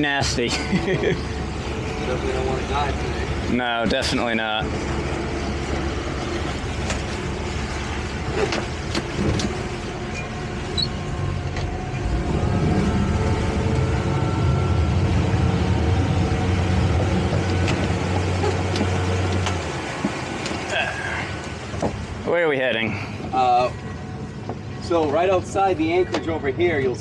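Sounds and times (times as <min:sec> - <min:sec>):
outboard motors running: 0:00.0 - 0:27.0.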